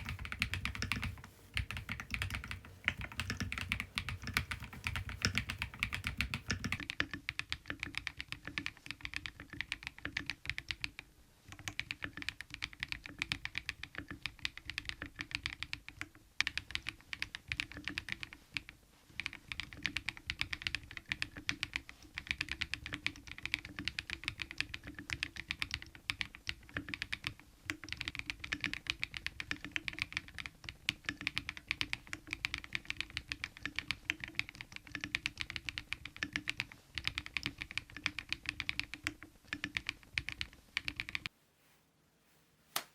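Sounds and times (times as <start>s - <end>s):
fast typing on mechanical keyboard: 0.0s - 41.3s.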